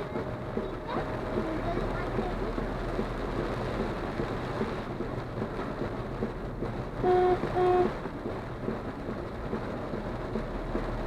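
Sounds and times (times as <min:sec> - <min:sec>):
heavy rain on a car: 0:00.0 - 0:11.0.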